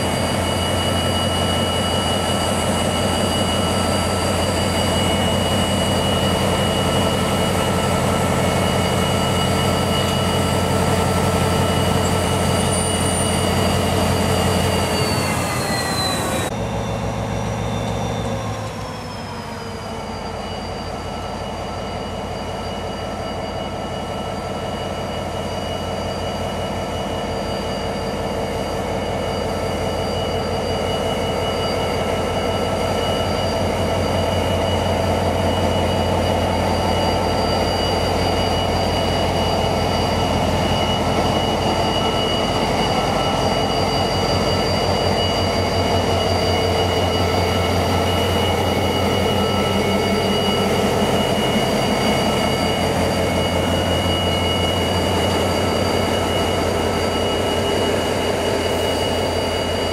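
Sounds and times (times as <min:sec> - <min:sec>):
diesel locomotive passing: 0:00.0 - 0:59.9
high whine: 0:00.0 - 0:59.9.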